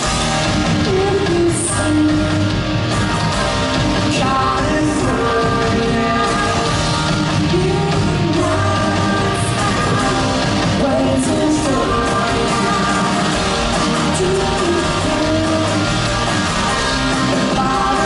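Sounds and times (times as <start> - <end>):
person singing: 0.0 - 3.1, 3.9 - 18.0
bass guitar: 0.0 - 18.0
drums: 0.0 - 18.0
electric guitar: 0.0 - 18.0.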